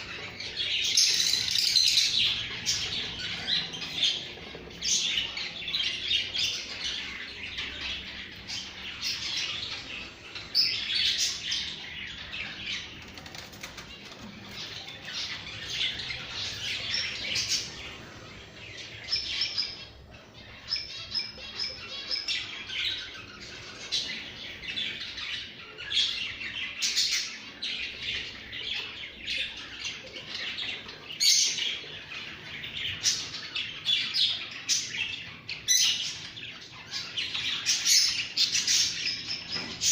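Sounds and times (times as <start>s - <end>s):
pet birds chirping: 0.0s - 39.9s.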